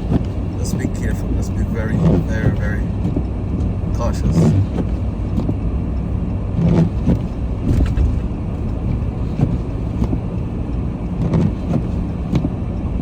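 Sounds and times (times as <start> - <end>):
engine and road noise in cabin: 0.0 - 13.0.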